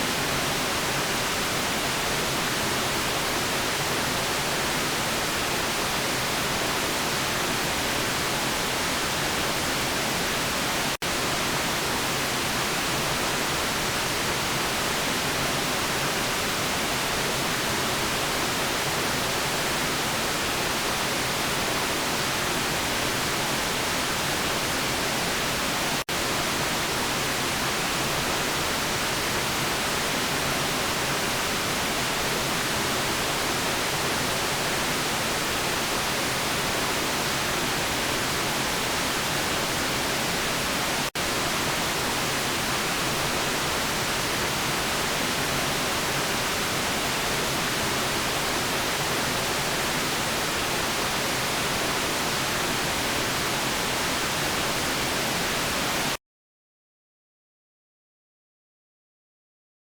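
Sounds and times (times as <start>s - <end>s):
white noise hiss: 0.0s - 56.2s.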